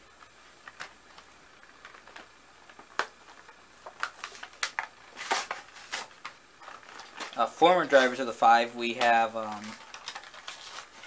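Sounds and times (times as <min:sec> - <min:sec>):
plastic package crinkling and clicking: 0:00.1 - 0:11.0.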